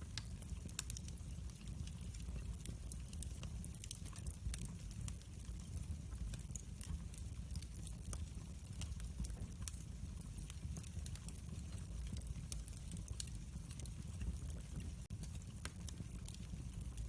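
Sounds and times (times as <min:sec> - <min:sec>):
fire pops and snaps: 0:00.0 - 0:17.0
wood fire crackling: 0:00.0 - 0:17.0.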